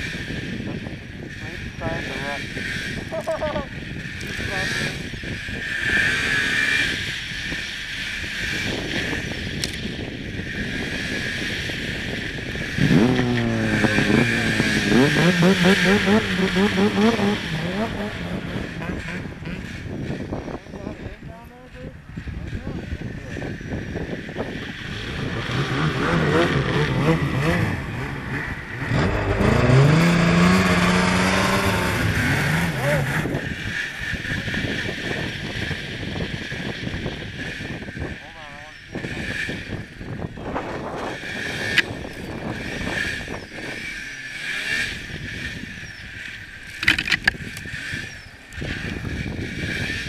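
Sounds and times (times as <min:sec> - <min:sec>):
snowmobile engine running hard: 0:00.0 - 0:50.0
wind noise on microphone: 0:00.0 - 0:50.0.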